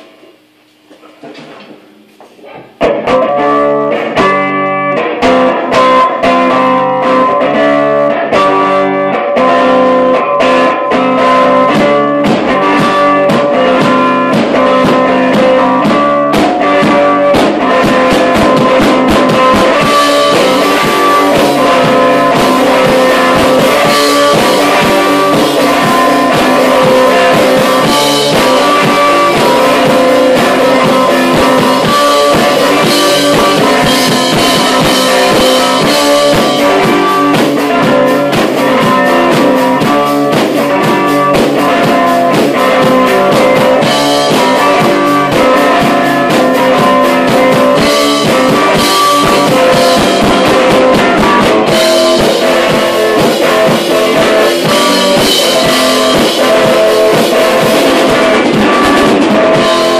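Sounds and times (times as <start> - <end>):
drum kit playing: 0.0 - 59.9
electric guitars playing rock: 2.4 - 59.9.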